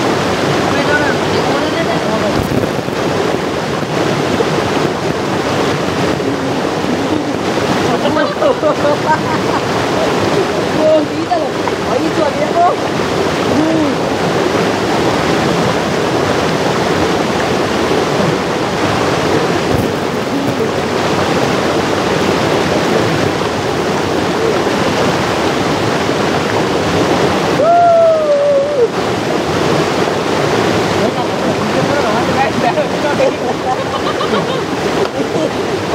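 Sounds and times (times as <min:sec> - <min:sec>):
stream rushing over boulders: 0:00.0 - 0:35.9.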